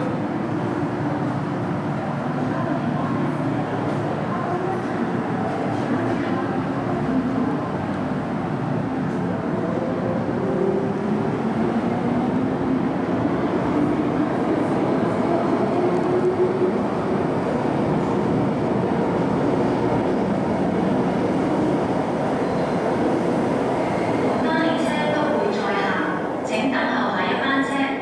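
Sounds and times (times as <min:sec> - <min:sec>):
faint train whine: 0:00.0 - 0:28.0.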